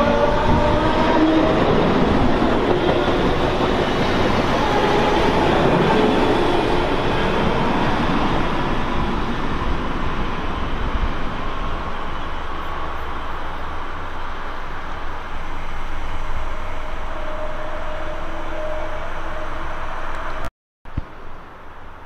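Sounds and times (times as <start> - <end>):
train wheels rumbling on rails: 0.0 - 20.5.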